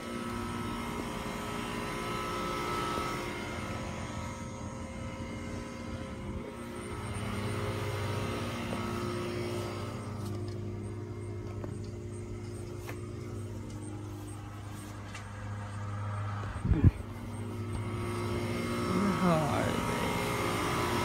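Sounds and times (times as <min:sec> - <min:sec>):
mechanical drone: 0:00.0 - 0:21.0.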